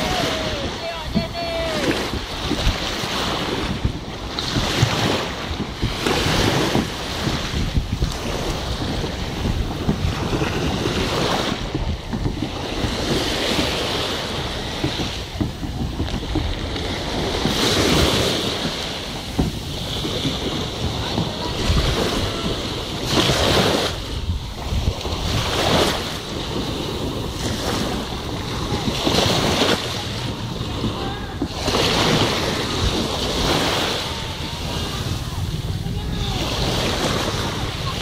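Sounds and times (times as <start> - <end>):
small waves washing on shore: 0.0 - 38.0
wind buffeting microphone: 0.0 - 38.0.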